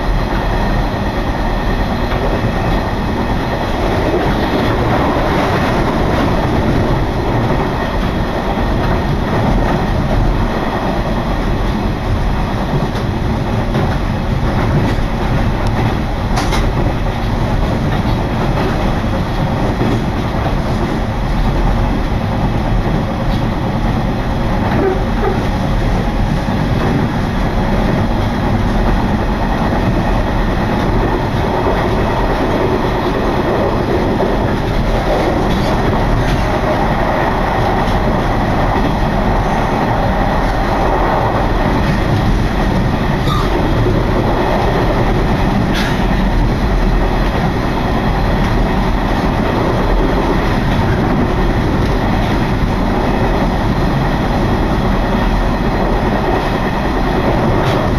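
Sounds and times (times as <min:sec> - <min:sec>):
rushing wind: 0:00.0 - 0:57.9
train wheels rumbling on rails: 0:00.0 - 0:57.9.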